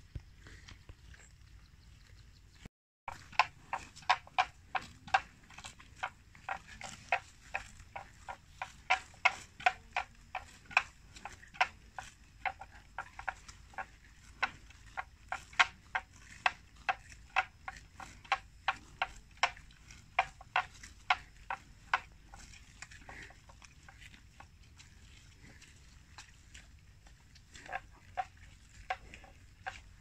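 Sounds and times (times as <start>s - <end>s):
buffalo ripping grass: 3.1s - 12.4s, 13.3s - 30.0s.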